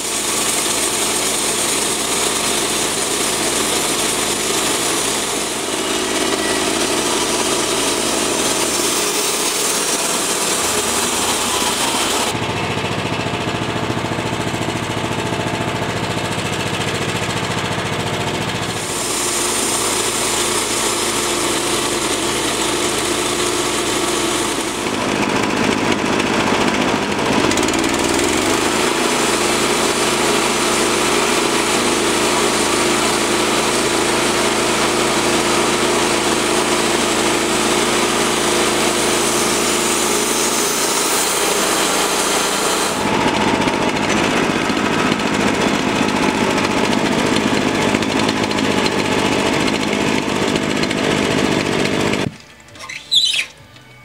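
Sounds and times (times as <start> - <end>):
bandsaw mill cutting log: 0.0 - 53.6.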